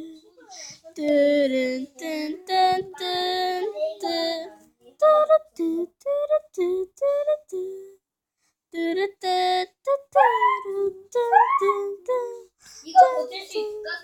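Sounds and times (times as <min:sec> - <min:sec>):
young person singing wordless notes: 0:00.9 - 0:08.0, 0:08.7 - 0:13.8.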